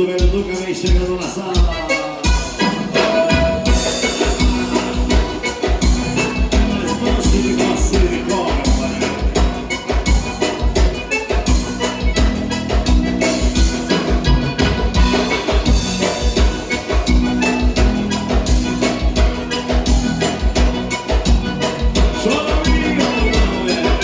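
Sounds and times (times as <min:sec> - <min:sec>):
accordion: 0:00.0 - 0:24.0
drum kit: 0:00.0 - 0:24.0
bass: 0:02.3 - 0:24.0.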